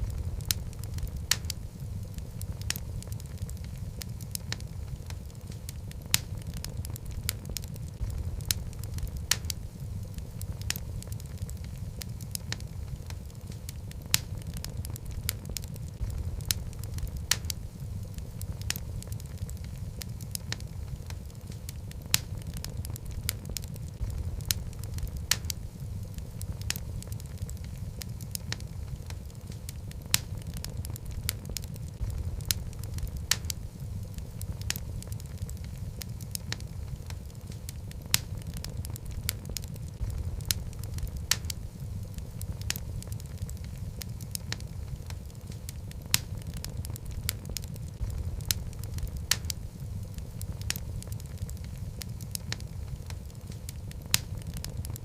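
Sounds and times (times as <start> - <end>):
fire flames rumbling: 0.0 - 55.0
wood crackling and popping: 0.0 - 55.0.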